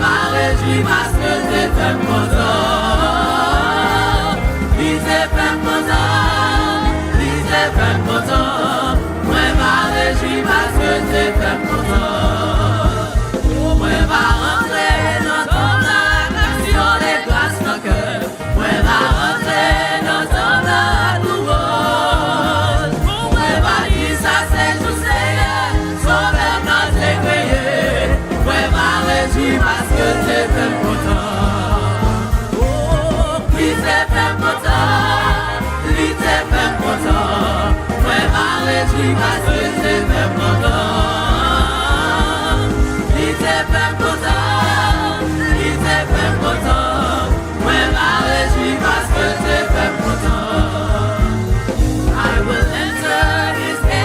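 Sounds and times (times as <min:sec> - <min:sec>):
choir singing gospel song: 0:00.0 - 0:54.0
live band accompaniment: 0:00.0 - 0:54.0.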